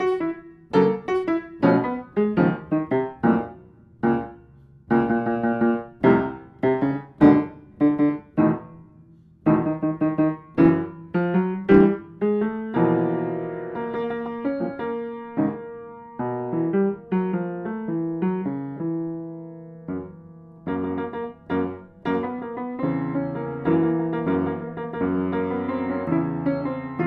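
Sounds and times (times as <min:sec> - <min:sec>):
solo piano chords: 0:00.0 - 0:27.0.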